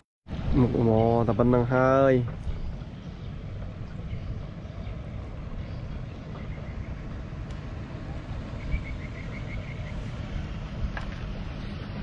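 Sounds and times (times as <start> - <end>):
wind rumbling on microphone: 0.3 - 12.0.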